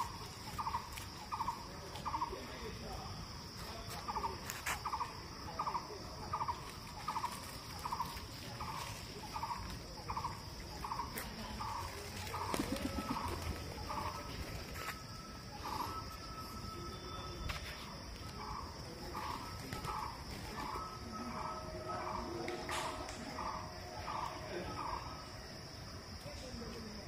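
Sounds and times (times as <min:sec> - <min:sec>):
high insect-like whine: 0:00.0 - 0:27.0.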